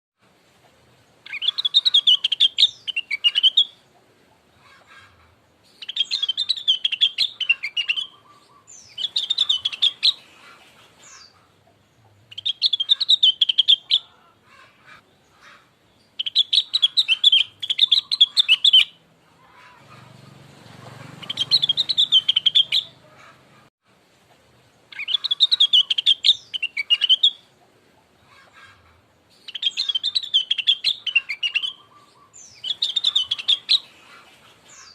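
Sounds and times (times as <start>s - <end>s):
bird warbling song: 1.2s - 23.7s, 24.8s - 34.9s.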